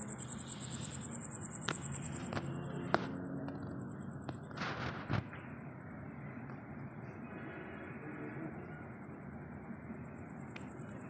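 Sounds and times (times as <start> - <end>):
cricket trilling: 0.0 - 11.0
low steady hum: 0.0 - 11.0.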